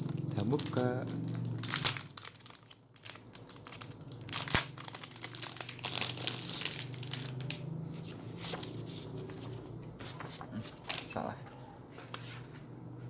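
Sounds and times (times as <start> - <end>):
plastic crinkling and rustling: 0.0 - 11.4.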